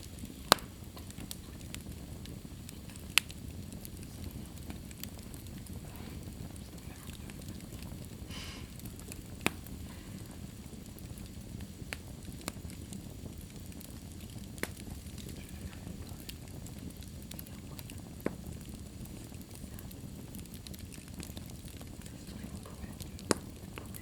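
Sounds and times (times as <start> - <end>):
fire crackling and popping: 0.0 - 24.0
wood fire burning: 0.0 - 24.0.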